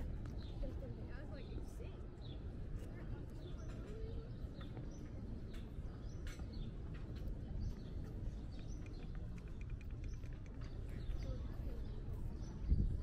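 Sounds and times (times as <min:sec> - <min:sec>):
low city rumble: 0:00.0 - 0:13.0
small birds chirping: 0:00.0 - 0:13.0.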